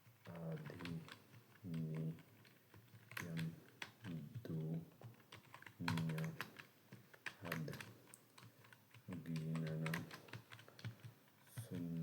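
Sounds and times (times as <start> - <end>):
keyboard typing: 0.0 - 12.0.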